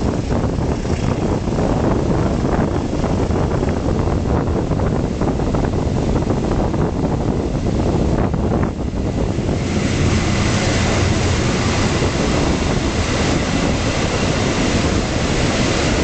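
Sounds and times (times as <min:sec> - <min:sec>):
train rumbling along track: 0:00.0 - 0:16.0
wind buffeting microphone: 0:00.0 - 0:16.0.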